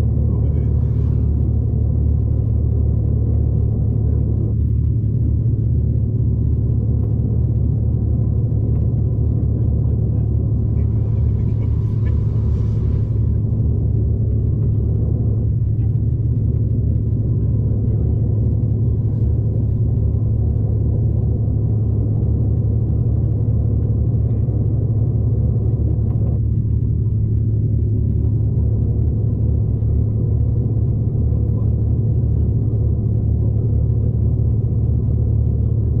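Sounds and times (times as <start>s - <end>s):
train rumble inside carriage: 0.0s - 36.0s.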